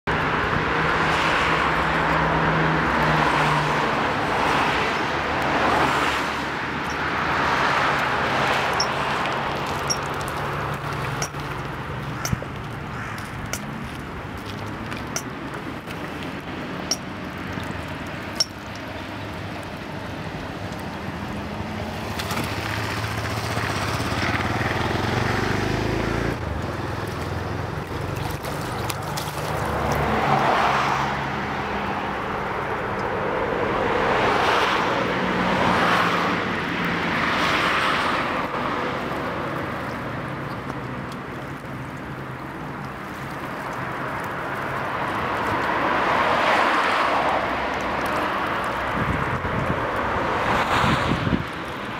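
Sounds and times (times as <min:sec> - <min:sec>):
vehicles passing: 0:00.0 - 0:51.9.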